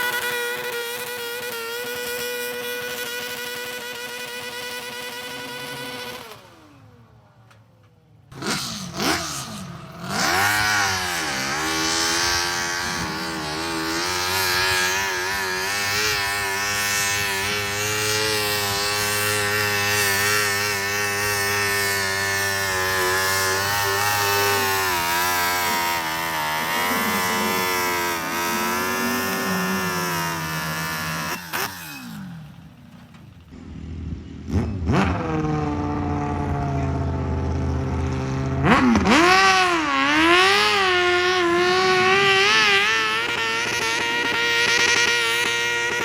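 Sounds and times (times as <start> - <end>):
tractor engine revving at full throttle: 0.0 - 7.6, 8.3 - 46.0.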